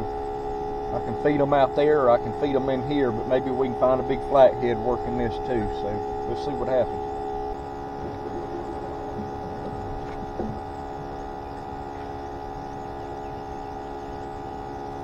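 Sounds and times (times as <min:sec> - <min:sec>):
pump whine: 0:00.0 - 0:15.0.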